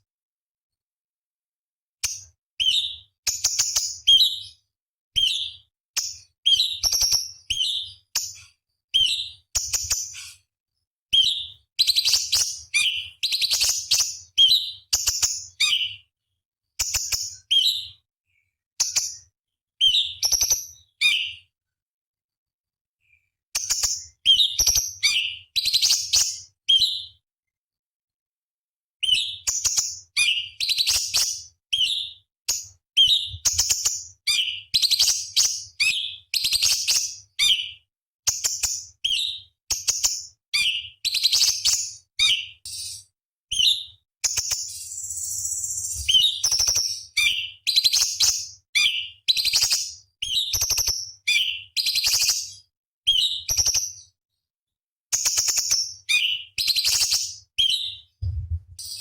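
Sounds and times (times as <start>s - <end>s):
bird chirping and whistling: 2.0s - 4.5s, 5.2s - 10.4s, 11.2s - 16.0s, 16.8s - 18.0s, 19.8s - 21.4s, 23.6s - 27.1s, 29.0s - 54.1s, 55.2s - 59.0s.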